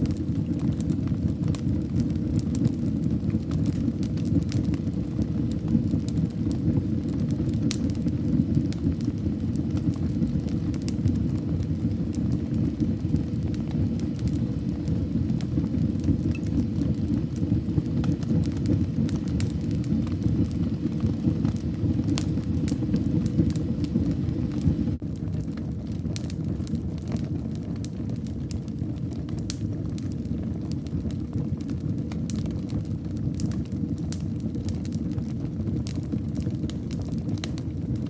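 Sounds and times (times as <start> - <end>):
fire crackling in a fireplace: 0.0 - 38.0.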